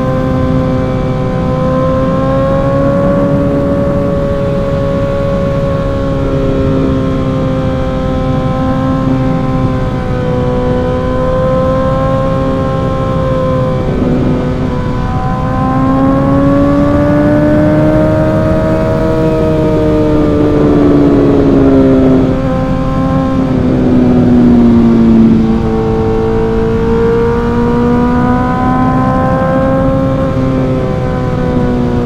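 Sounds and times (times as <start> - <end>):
motorcycle engine running: 0.0 - 32.0
wind noise: 0.0 - 32.0.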